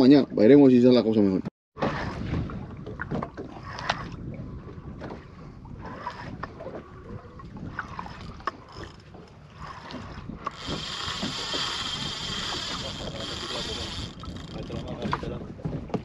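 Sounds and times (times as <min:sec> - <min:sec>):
wind buffeting microphone: 0:01.8 - 0:16.0.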